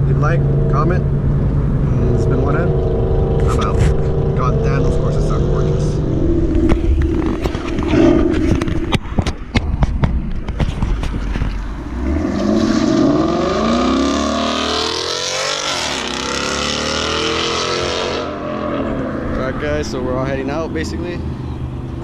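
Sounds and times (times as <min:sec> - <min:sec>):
exhaust cracks: 0:00.0 - 0:21.2
car engine accelerating: 0:00.0 - 0:22.0.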